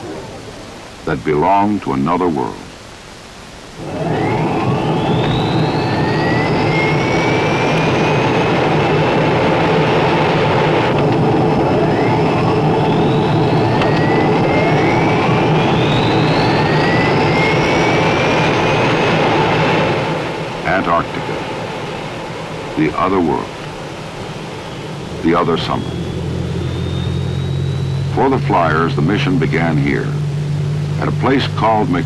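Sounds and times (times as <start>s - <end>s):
high turbine whine: 0.0s - 32.0s
turboprop engines running: 3.6s - 32.0s.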